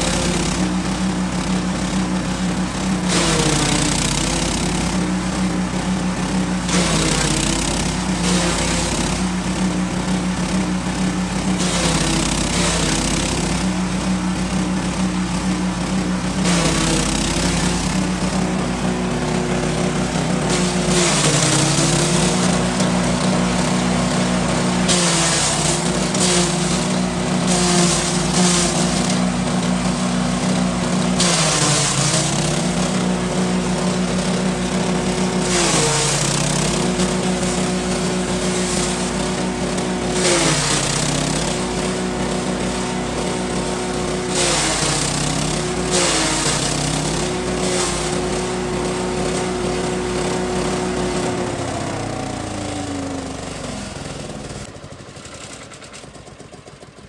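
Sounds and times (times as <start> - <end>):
blades chopping grass: 0.0 - 57.0
small engine running: 0.0 - 57.0.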